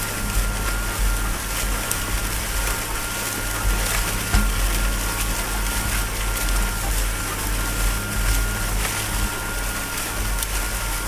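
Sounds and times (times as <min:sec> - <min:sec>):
low rumble of plow: 0:00.0 - 0:11.0
stalks and clods crackling: 0:00.0 - 0:11.0
thin steady whine: 0:00.0 - 0:11.0.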